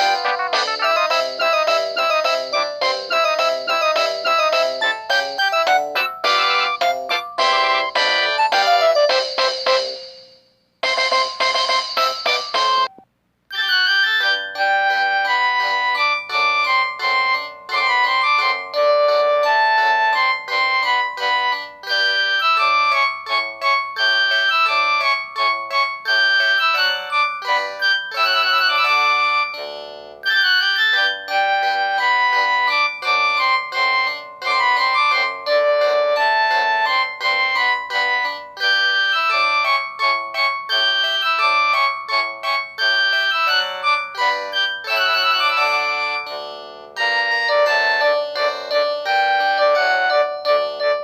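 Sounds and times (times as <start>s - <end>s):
keyboard melody: 0.0s - 51.0s
phone ringtone: 0.0s - 51.0s.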